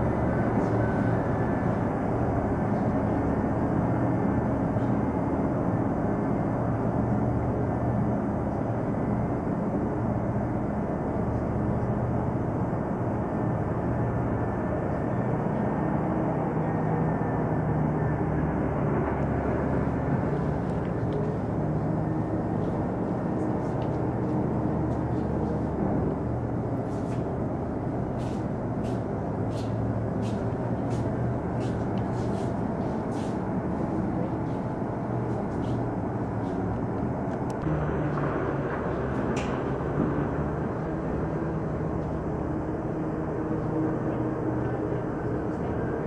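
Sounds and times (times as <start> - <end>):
heavy machinery drone: 0.0 - 46.0
truck engines: 0.0 - 46.0.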